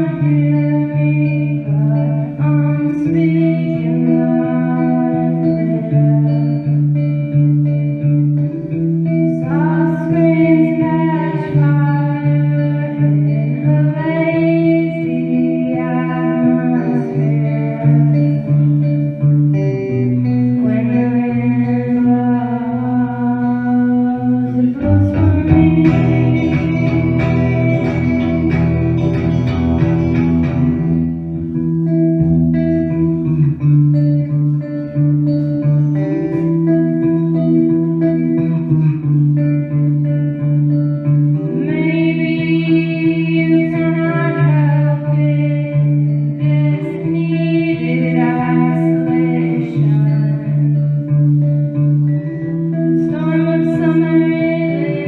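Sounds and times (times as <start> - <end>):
guitar melody: 0.0 - 55.0
person singing: 0.0 - 55.0.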